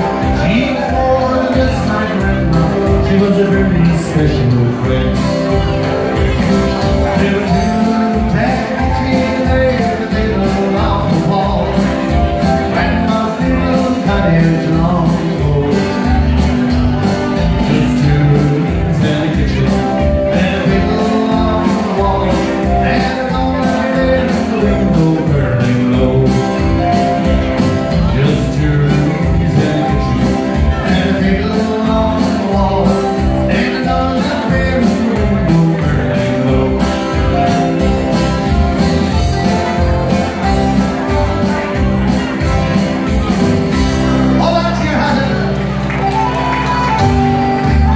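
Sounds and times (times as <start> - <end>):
country dance-band music: 0.0 - 47.9.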